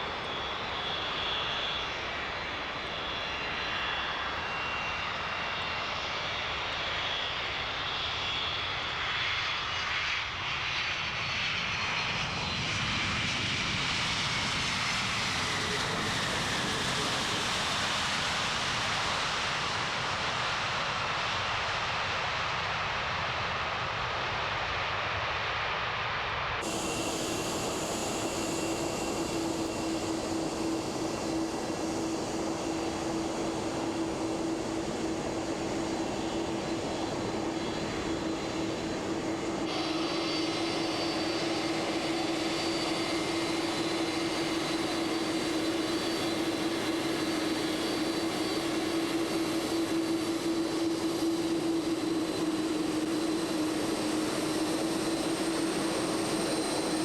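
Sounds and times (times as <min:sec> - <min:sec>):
jet engines droning: 0:00.0 - 0:57.0.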